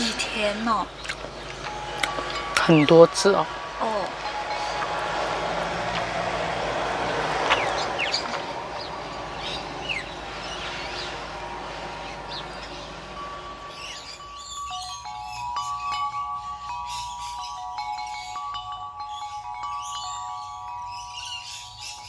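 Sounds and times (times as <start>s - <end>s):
birds chirping: 0.0s - 22.0s
outdoor background hiss: 0.0s - 22.0s.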